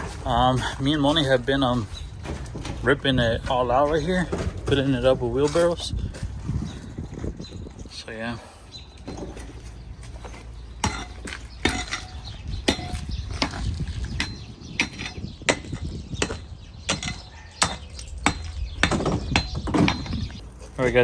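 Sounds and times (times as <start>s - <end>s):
concrete slabs knocking and clattering: 0.0s - 6.3s, 9.0s - 21.0s.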